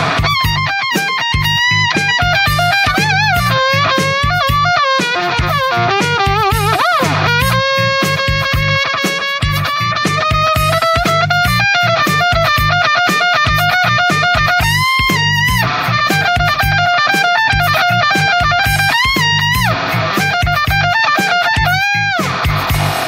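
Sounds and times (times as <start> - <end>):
distorted electric guitar lead: 0.0 - 23.0
drums and bass: 0.0 - 23.0.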